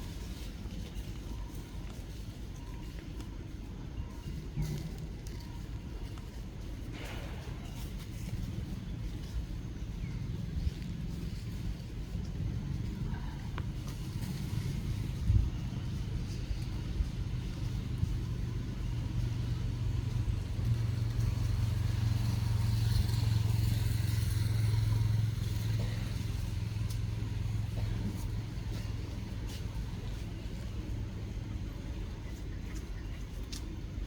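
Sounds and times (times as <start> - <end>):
engine rumbling: 0.0 - 34.0.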